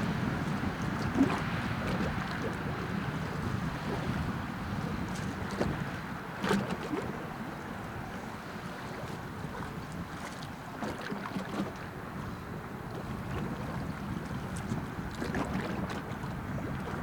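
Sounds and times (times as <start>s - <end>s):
ship rumble and wash: 0.0s - 17.0s
wind buffeting microphone: 0.0s - 17.0s.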